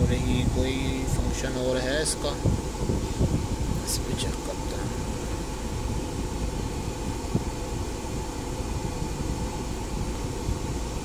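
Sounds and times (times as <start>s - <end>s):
air conditioning blowing: 0.0s - 11.0s
engine and road hum: 0.0s - 11.0s.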